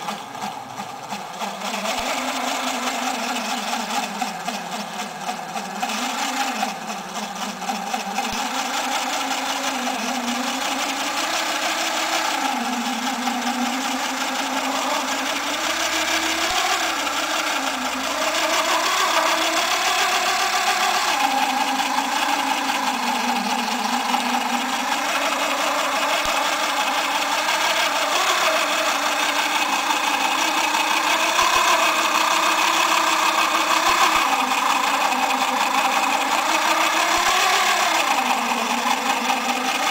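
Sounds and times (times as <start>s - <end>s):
small electric motor whine: 0.0s - 39.9s.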